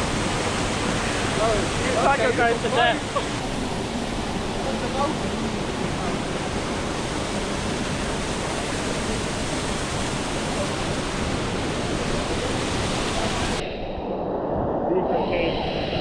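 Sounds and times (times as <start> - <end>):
waterfall roaring: 0.0 - 13.6.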